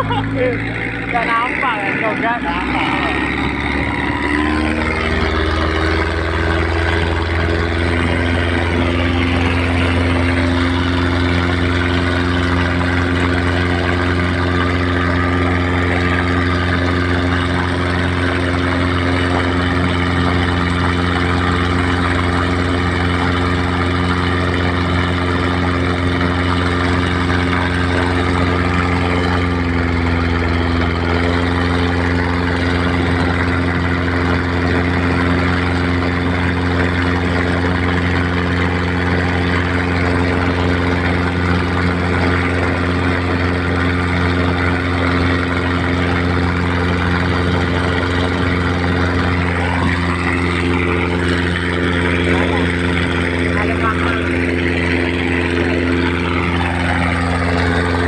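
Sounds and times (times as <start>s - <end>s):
boat diesel engine drone: 0.0s - 58.0s
rushing water: 0.0s - 58.0s.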